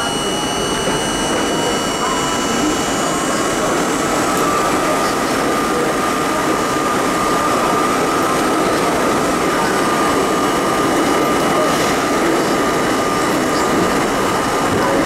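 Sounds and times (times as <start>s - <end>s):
high whine: 0.0s - 15.0s
subway wheels rumbling on rail: 0.0s - 15.0s.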